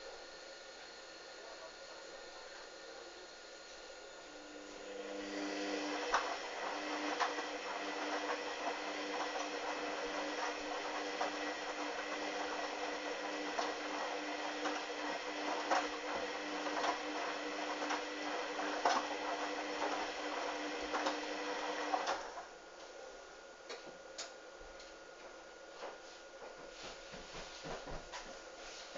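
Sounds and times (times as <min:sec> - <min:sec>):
washing machine motor hum: 0:00.0 - 0:28.9.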